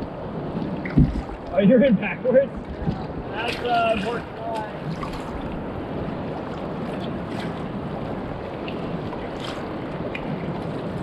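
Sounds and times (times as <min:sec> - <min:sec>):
surf breaking on beach: 0:00.0 - 0:11.0
wind on microphone: 0:00.0 - 0:11.0.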